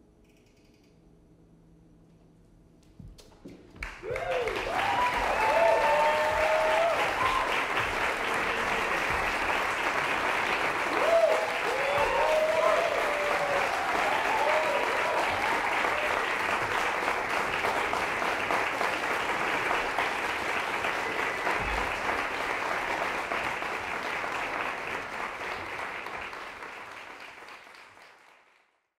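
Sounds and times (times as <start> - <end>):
audience applauding: 3.8 - 28.9.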